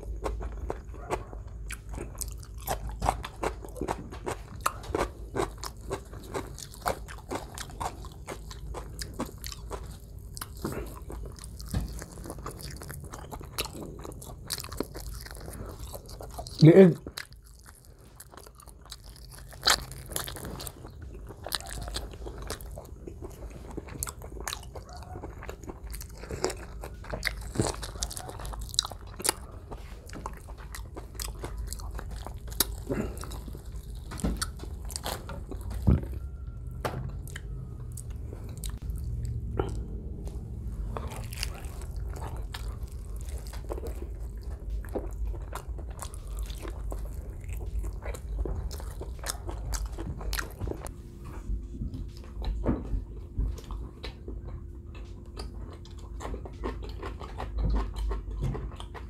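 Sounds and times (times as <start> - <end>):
chewing and crunchy bites: 0.0 - 59.0.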